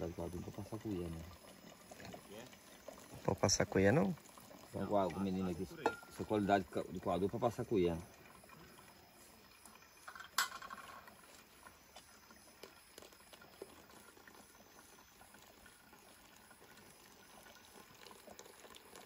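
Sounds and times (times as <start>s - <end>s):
water trickling into coffee filter: 0.0s - 19.0s.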